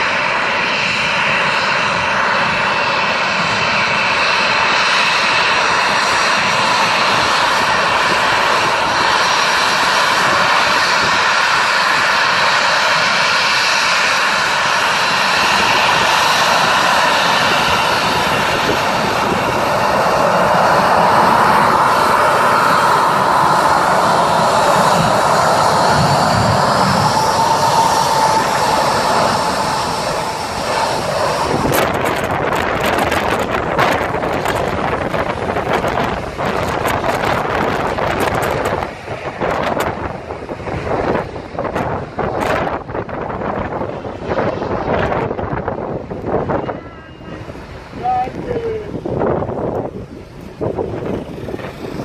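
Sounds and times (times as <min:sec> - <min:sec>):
jet engines running: 0:00.0 - 0:52.0
wind buffeting microphone: 0:00.0 - 0:52.0.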